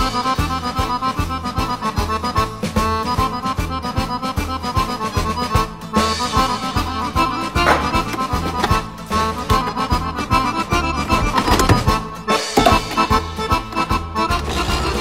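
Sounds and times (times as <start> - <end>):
accordion tune: 0.0 - 15.0.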